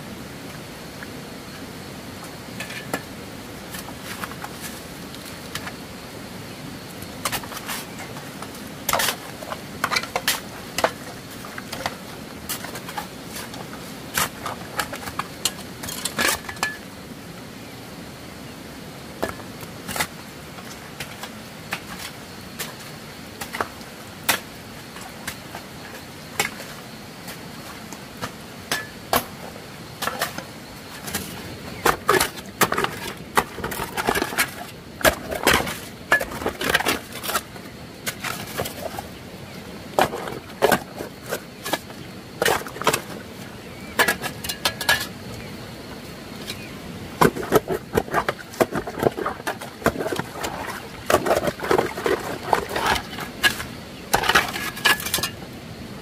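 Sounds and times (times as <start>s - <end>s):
low background hiss: 0.0s - 56.0s.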